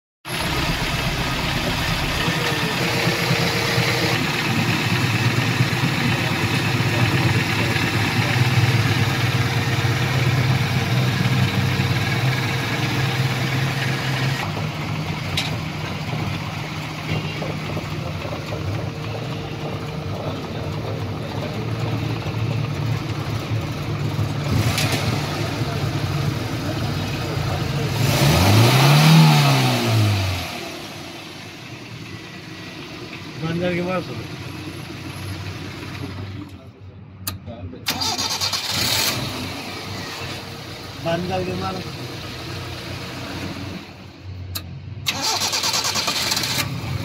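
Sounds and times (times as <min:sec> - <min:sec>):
car engine idling: 0:00.2 - 0:47.0.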